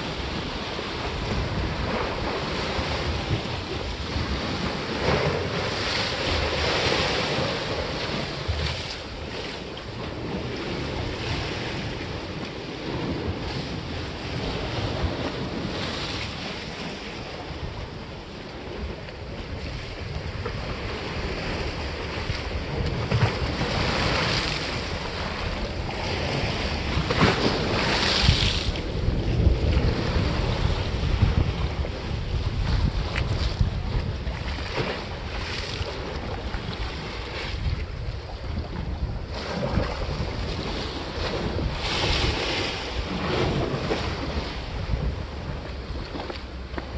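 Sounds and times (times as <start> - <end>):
sea waves washing against rocks: 0.0 - 46.9
wind buffeting microphone: 0.0 - 46.9.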